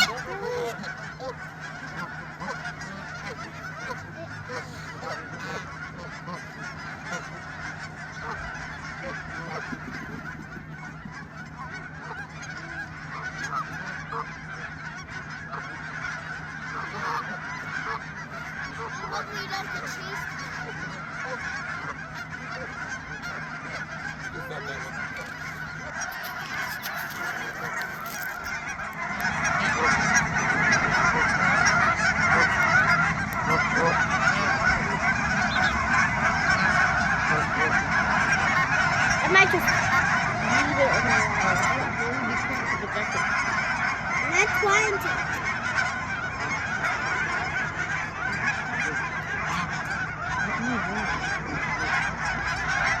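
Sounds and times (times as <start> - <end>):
geese honking: 0.0 - 53.0.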